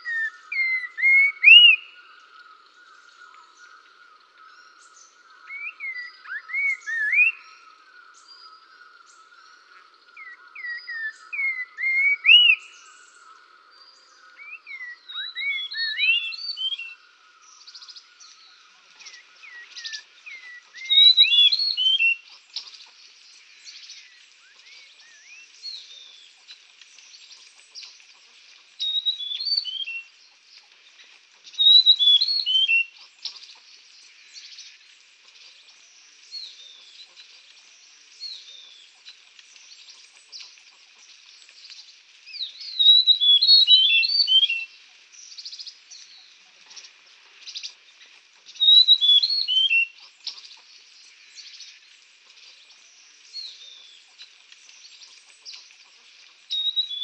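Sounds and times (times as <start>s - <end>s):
high-pitched background hiss: 0.0s - 57.0s
songbirds chirping: 0.0s - 57.0s.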